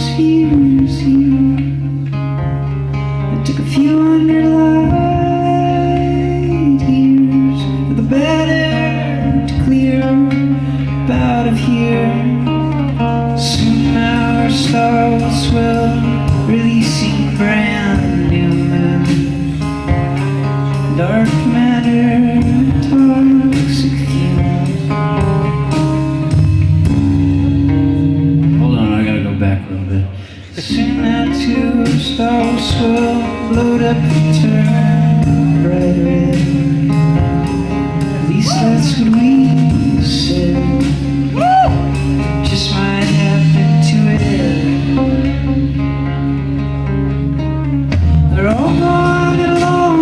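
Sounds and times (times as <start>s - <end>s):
bass line: 0.0s - 50.0s
guitar: 0.0s - 50.0s.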